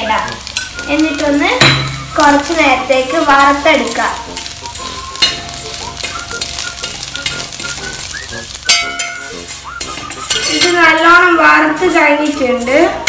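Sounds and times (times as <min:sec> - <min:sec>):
vermicelli sizzling in fat: 0:00.0 - 0:13.0.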